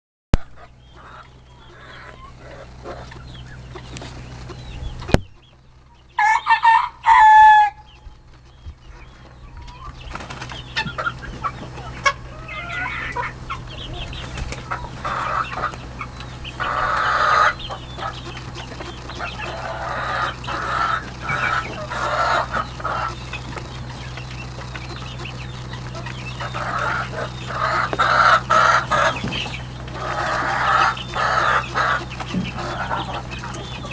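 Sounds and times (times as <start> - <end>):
tractor engine humming: 0.3 - 33.9
chickens clucking and squawking: 0.4 - 33.9.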